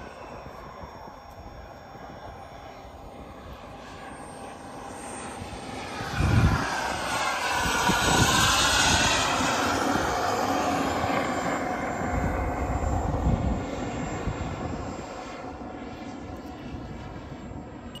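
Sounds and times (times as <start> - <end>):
model jet turbine flyby: 0.0 - 18.0.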